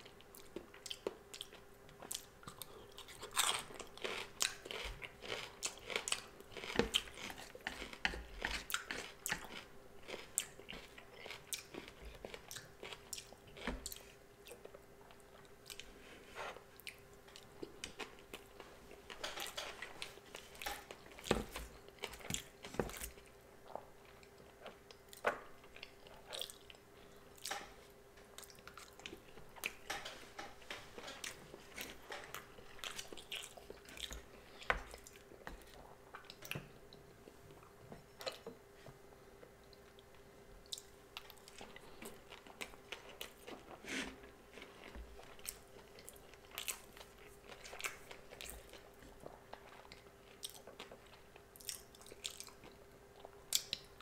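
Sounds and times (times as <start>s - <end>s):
faint hum: 0.0s - 54.0s
chewing and biting food: 0.1s - 15.9s, 16.8s - 27.8s, 28.4s - 36.7s, 39.7s - 54.0s.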